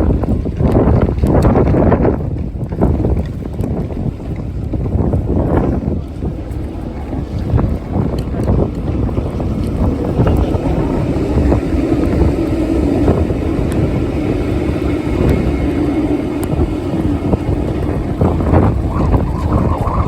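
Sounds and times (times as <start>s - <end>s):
motor vehicle hum: 0.0s - 20.0s
wind buffeting microphone: 0.0s - 20.0s.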